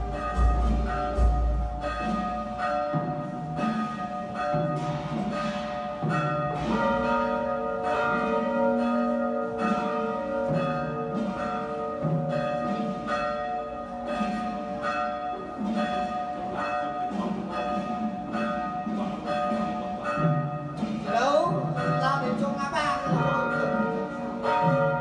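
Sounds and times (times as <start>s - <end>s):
church bells tolling: 0.0s - 25.0s.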